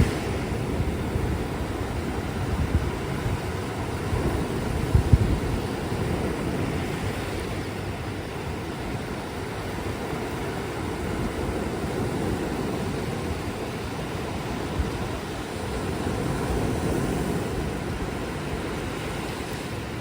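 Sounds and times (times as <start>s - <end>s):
sea surf washing on beach: 0.0s - 20.0s.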